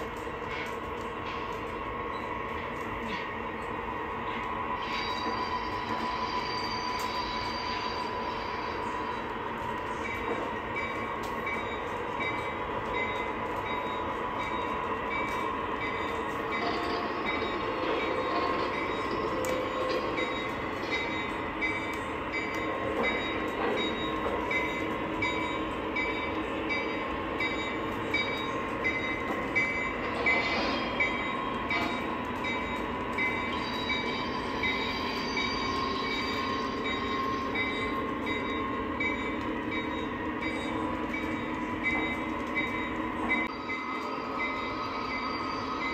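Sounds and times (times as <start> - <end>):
model trains whirring on track: 0.0 - 45.9.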